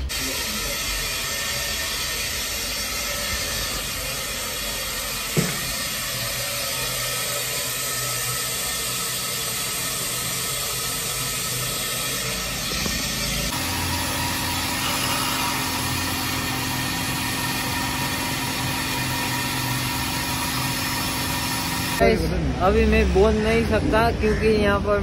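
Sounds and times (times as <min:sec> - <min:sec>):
dental equipment hissing: 0:00.0 - 0:22.0.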